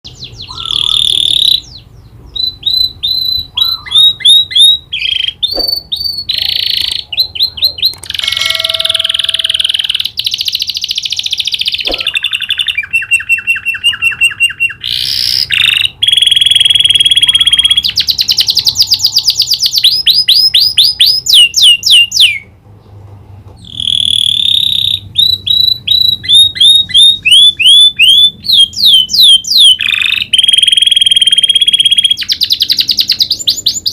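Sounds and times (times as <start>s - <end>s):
canary singing: 0.1s - 22.6s, 23.6s - 33.9s.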